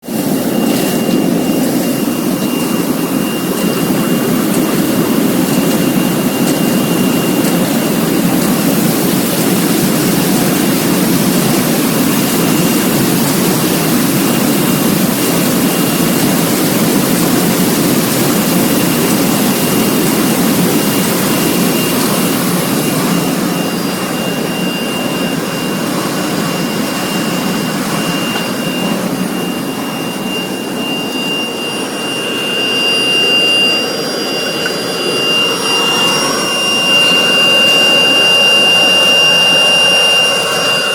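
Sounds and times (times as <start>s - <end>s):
high-pitched whine: 0.0s - 40.9s
washing machine rushing noise: 0.0s - 40.9s.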